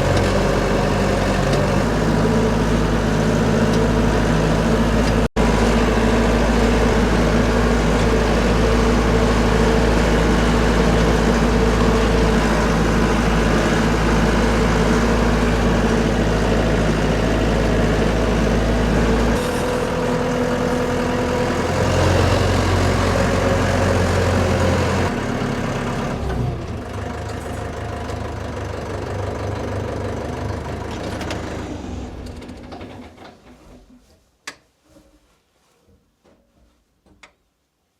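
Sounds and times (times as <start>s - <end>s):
engine running with low drone: 0.0s - 33.2s.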